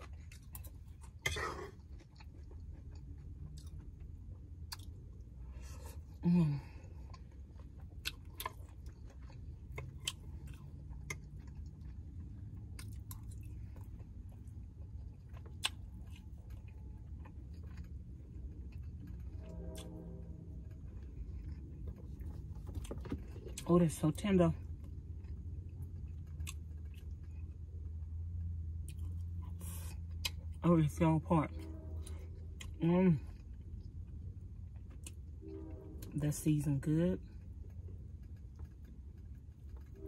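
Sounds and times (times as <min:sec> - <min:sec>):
chewing with wet mouth sounds: 0:00.0 - 0:20.0, 0:20.6 - 0:35.4, 0:36.0 - 0:40.0.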